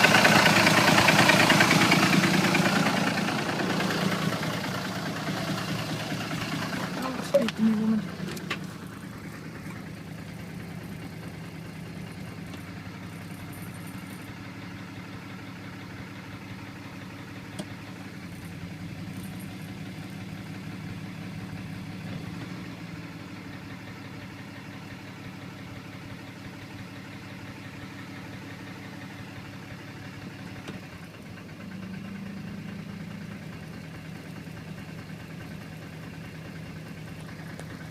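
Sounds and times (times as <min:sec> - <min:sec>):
diesel engine idling: 0:00.0 - 0:37.9
engine knocking: 0:00.0 - 0:37.9.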